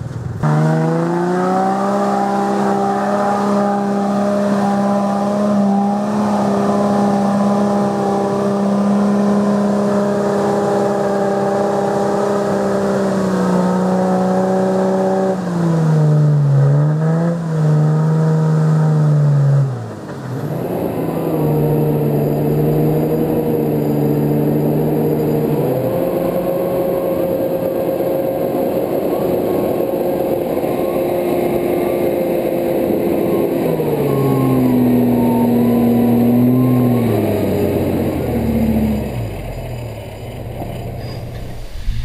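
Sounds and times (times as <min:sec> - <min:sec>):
engine working under load: 0:00.0 - 0:42.0.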